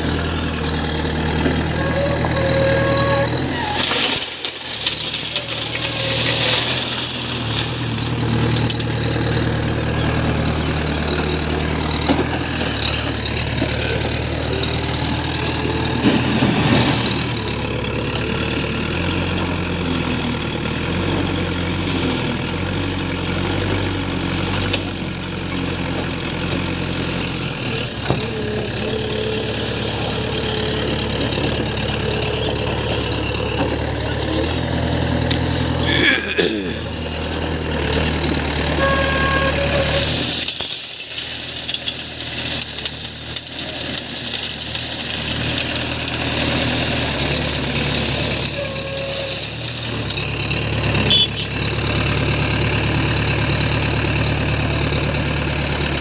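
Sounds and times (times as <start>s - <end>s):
diesel engine changing speed: 0.0s - 56.0s.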